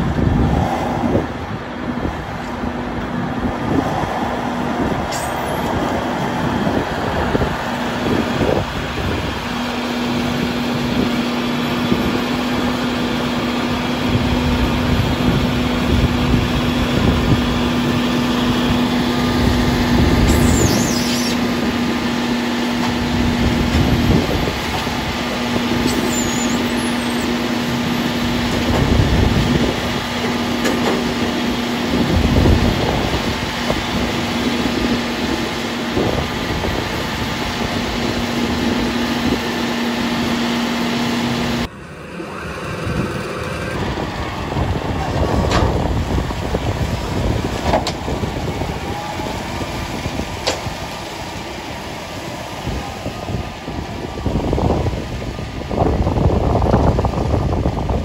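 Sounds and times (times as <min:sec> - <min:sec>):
diesel engines droning: 0:00.0 - 0:58.0.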